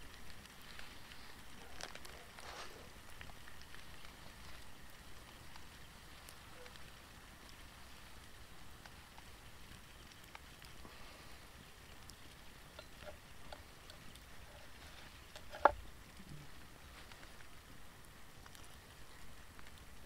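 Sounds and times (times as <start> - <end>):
light ticks: 0.0 - 20.0
soft steady hiss: 0.0 - 20.0.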